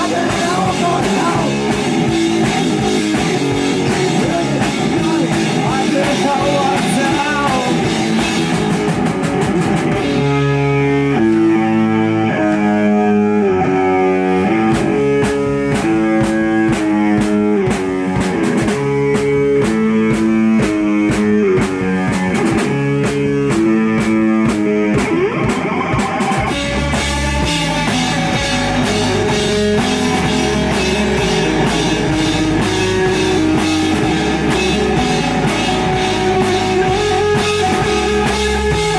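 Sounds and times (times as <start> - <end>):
drum kit: 0.0 - 38.9
electric guitar riffing: 0.0 - 38.9.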